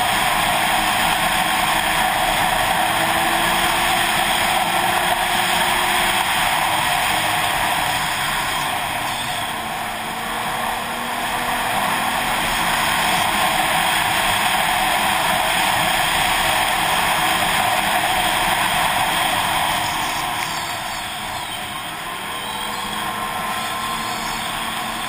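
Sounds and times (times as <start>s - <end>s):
wind rush: 0.0s - 22.3s
snowmobile engine and track: 0.0s - 25.0s.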